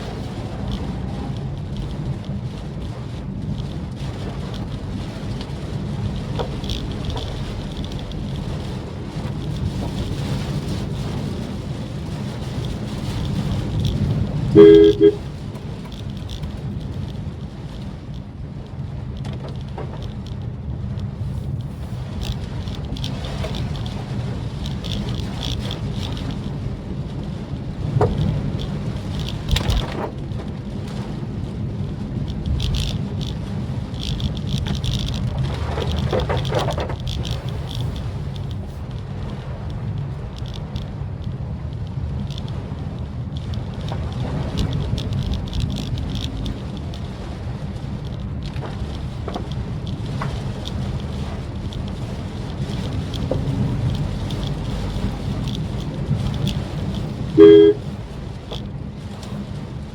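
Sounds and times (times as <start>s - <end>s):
engine and tyre rumble: 0.0s - 59.9s
faint light ticks: 0.0s - 59.9s.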